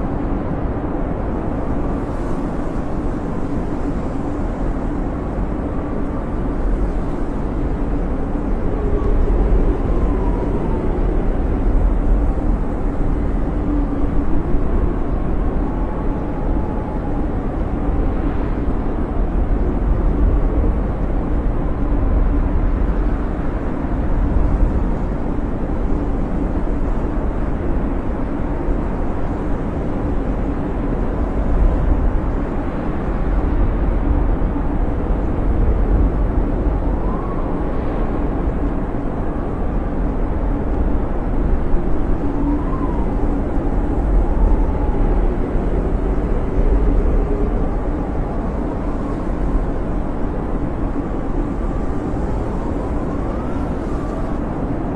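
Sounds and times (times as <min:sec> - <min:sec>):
blizzard wind rumbling: 0:00.0 - 0:54.9
wind whistling howls: 0:00.0 - 0:54.9.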